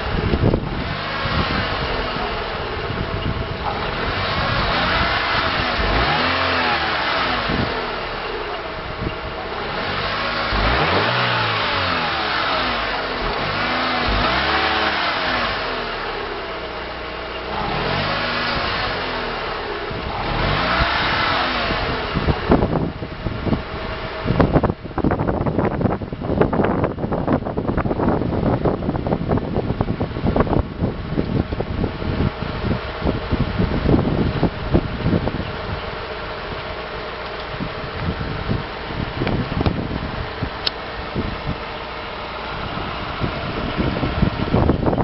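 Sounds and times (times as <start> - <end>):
car engine revving: 0.0 - 26.7, 28.0 - 45.0.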